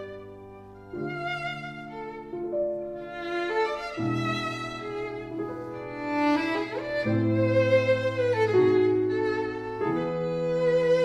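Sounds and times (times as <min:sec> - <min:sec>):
slow violin melody: 0:00.0 - 0:11.0.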